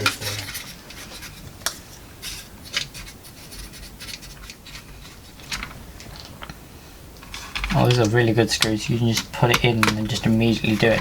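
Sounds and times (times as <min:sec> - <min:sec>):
plastic parts clicking and scraping: 0:00.0 - 0:06.6, 0:07.2 - 0:11.0.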